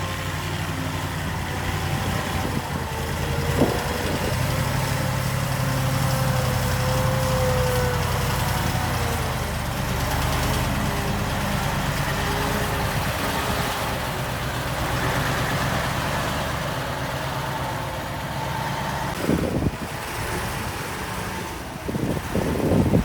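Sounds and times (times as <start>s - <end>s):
heavy diesel engine running: 0.0s - 23.0s
loud uneven machinery noise: 0.0s - 23.0s.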